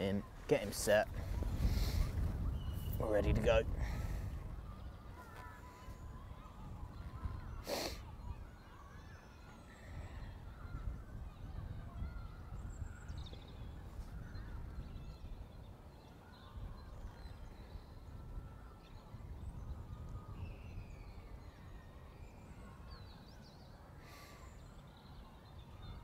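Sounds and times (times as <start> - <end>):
faint bird chirps and whistles: 1.0 - 3.2, 4.1 - 26.0.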